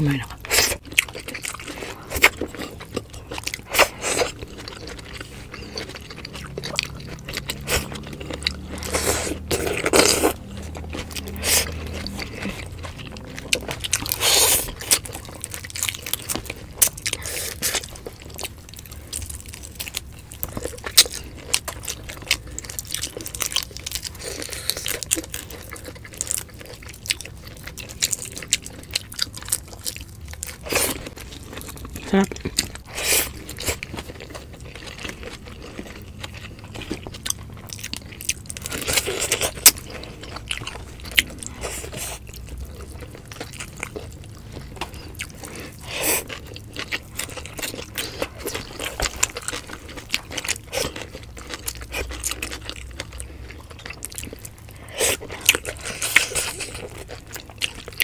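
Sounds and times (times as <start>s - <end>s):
people chewing food: 0.0s - 58.0s.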